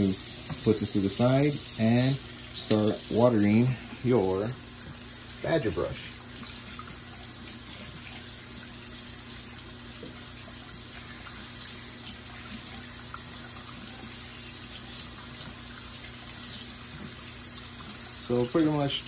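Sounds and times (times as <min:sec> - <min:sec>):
faucet running: 0:00.0 - 0:19.0
water splashing into sink: 0:00.0 - 0:19.0.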